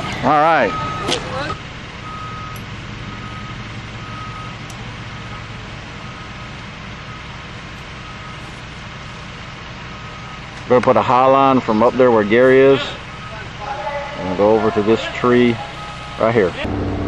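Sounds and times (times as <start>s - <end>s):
heavy machine engine running: 0.0s - 17.0s
reversing alarm beeping: 0.2s - 9.2s, 9.8s - 10.6s, 11.2s - 16.7s.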